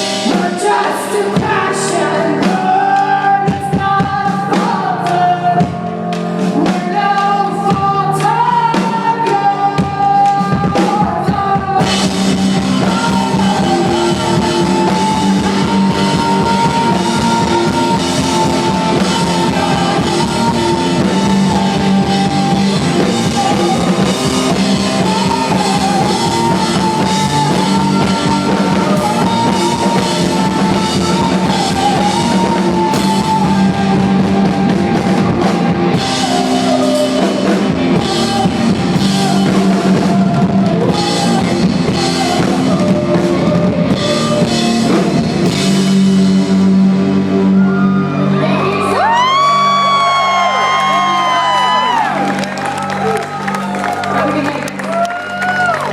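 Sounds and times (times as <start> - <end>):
live rock band playing: 0.0 - 55.9
person singing: 0.0 - 55.9.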